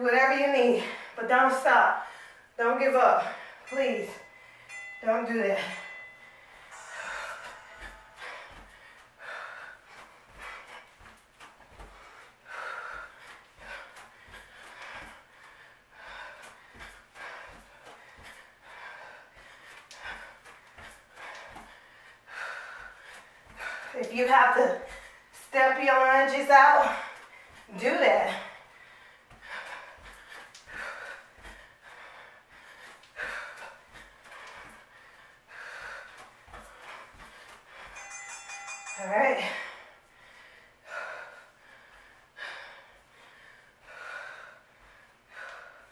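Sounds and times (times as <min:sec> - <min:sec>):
woman breathing hard: 0:02.0 - 0:02.6, 0:03.2 - 0:24.0, 0:24.8 - 0:25.4, 0:26.8 - 0:45.9.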